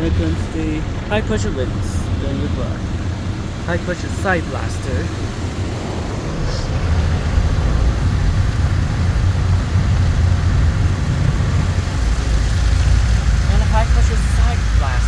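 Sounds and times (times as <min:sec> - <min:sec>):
water spraying against car: 0:00.0 - 0:15.0.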